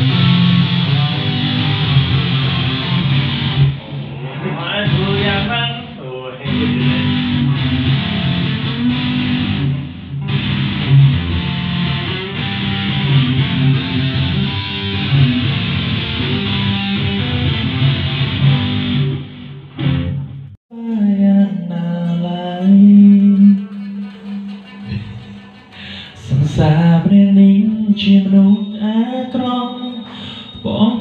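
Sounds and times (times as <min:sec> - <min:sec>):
electric guitar through speaker: 0:00.0 - 0:31.0.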